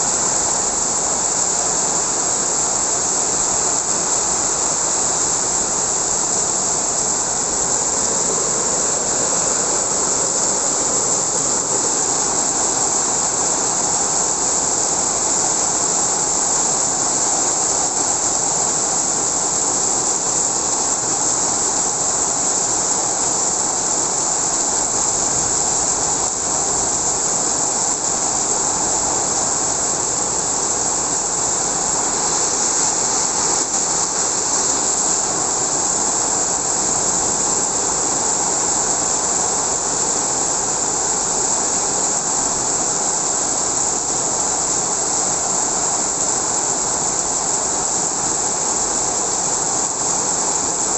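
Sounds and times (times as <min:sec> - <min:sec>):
heavy rain pouring: 0:00.0 - 0:50.9
strong wind: 0:00.0 - 0:50.9.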